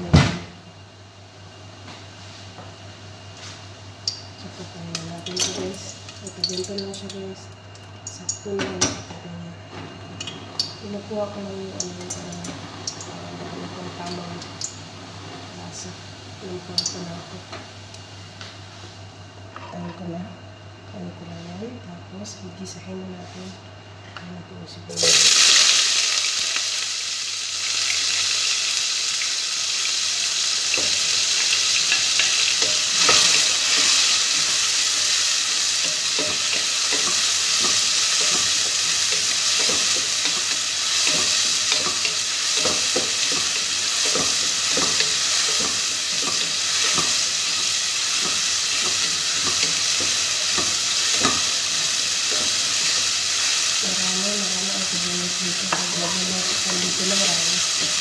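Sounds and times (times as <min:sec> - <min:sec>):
onions sizzling in oil: 0:00.0 - 0:19.3, 0:24.9 - 0:58.0.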